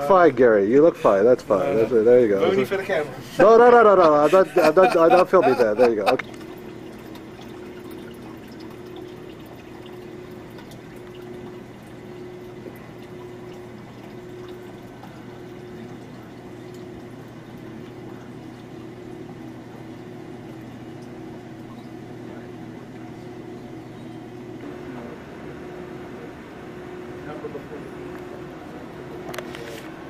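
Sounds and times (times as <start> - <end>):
background hum and hiss: 0.0 - 30.0.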